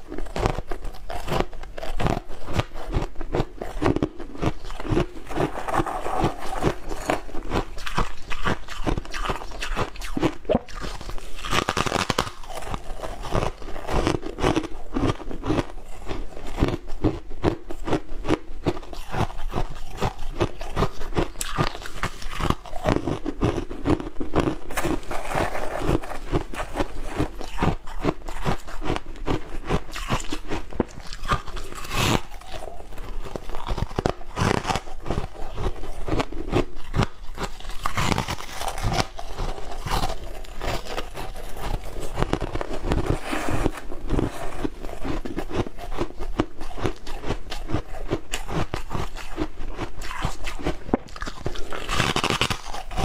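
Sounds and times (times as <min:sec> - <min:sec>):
ice crunching while chewed: 0:00.0 - 0:53.0.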